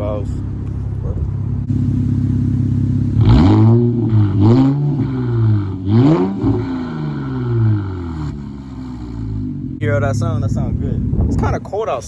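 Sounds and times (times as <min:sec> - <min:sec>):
car exhaust revving: 0:00.0 - 0:12.0.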